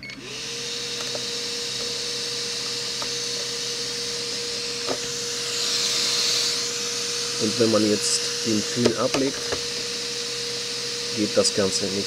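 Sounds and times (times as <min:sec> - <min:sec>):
blower humming: 0:00.0 - 0:12.0.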